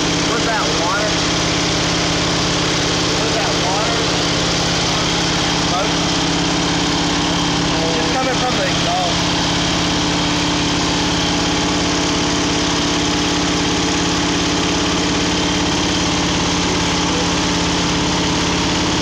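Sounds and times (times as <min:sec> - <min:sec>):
vee eight engine idling: 0:00.0 - 0:19.0.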